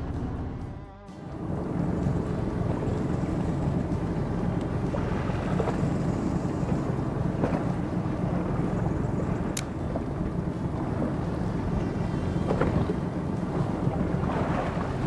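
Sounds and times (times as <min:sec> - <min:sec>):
boat engine low rumble: 0:00.0 - 0:15.0
wind on microphone: 0:01.3 - 0:15.0.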